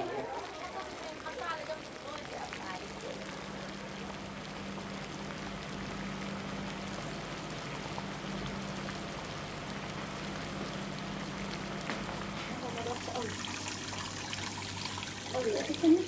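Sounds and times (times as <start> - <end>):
liquid boiling in frying pan: 0.0 - 16.0
steady low hum: 2.7 - 16.0.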